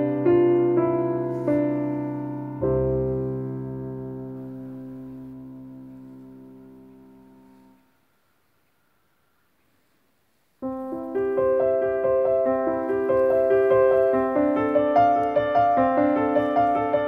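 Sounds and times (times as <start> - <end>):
calm piano music: 0.0 - 7.9, 10.6 - 17.0.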